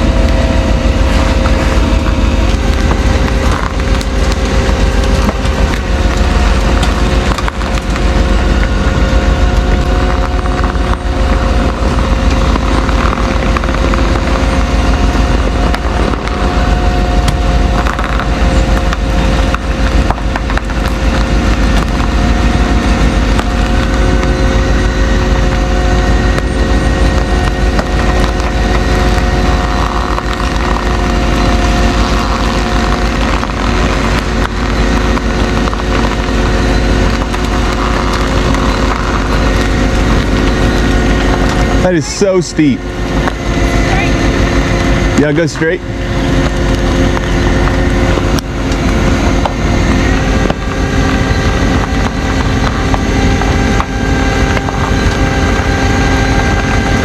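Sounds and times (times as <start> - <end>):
crunching and crackling: 0.0 - 57.0
steady whine: 0.0 - 57.0
truck engine rumbling: 0.0 - 57.0.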